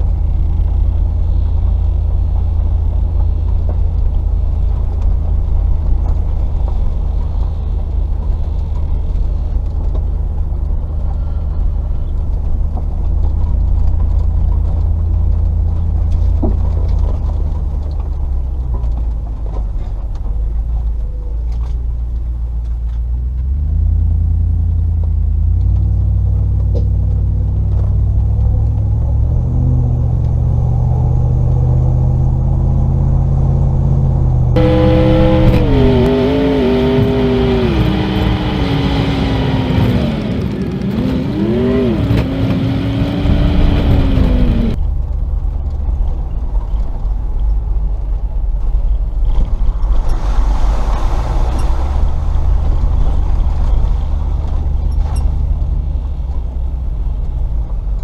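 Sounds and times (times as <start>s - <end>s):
car engine running at low speed: 0.0s - 58.0s.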